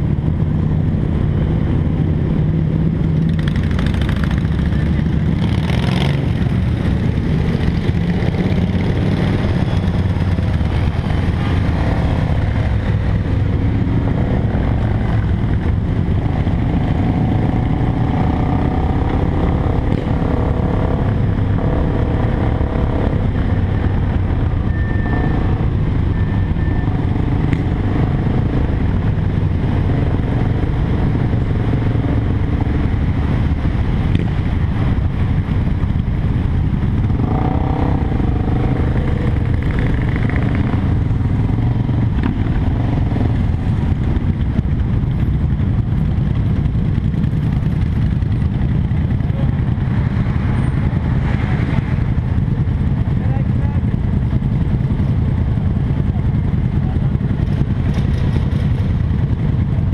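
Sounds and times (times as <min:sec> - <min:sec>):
motorcycle engine running: 0:00.0 - 0:59.9
other motorcycles: 0:00.0 - 0:59.9.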